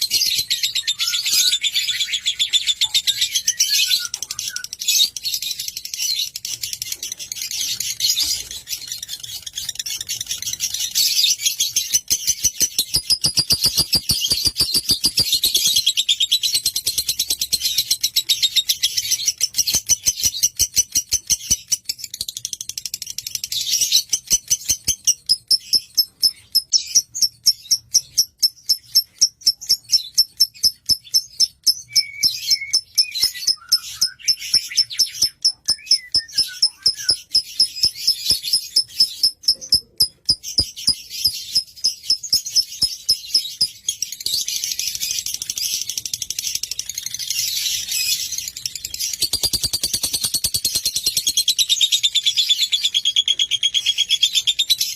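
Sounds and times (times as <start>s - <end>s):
lovebird chirping: 0.0s - 54.9s.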